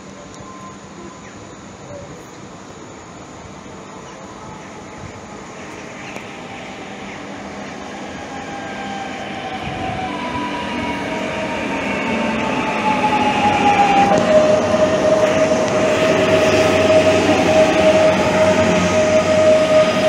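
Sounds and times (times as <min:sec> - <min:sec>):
train approaching: 0:00.0 - 0:20.0
train whine: 0:00.0 - 0:20.0.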